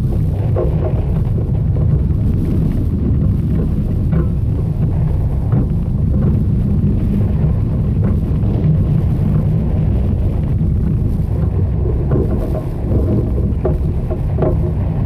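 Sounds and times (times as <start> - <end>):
roller coaster rumbling on track: 0.0 - 15.0
wind buffeting microphone: 0.0 - 15.0.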